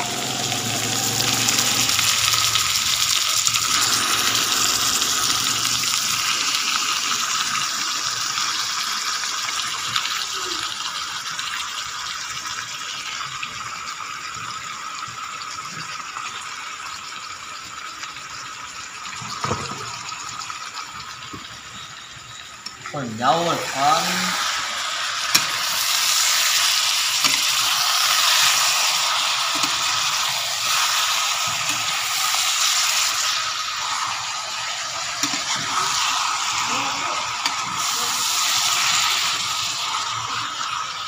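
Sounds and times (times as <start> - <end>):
chicken sizzling in hot oil: 0.0 - 41.0.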